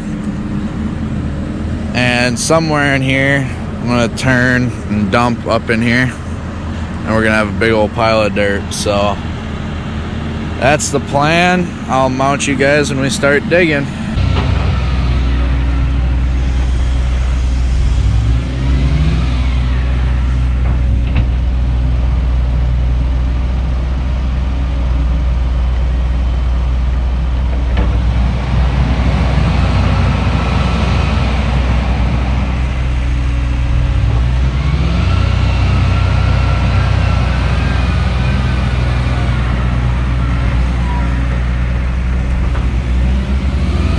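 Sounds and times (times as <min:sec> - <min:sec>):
diesel engine revving: 0:00.0 - 0:43.9
high whine: 0:00.0 - 0:43.9.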